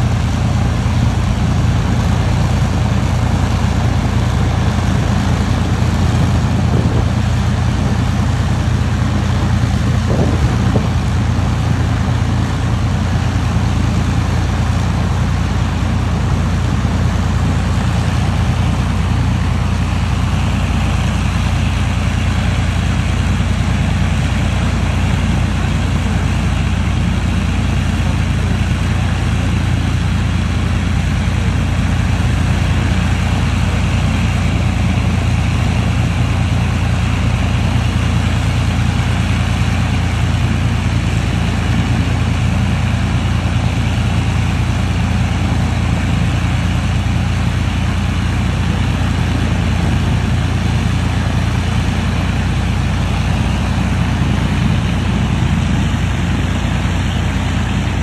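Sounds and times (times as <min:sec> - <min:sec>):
aircraft engine droning: 0:00.0 - 0:58.0.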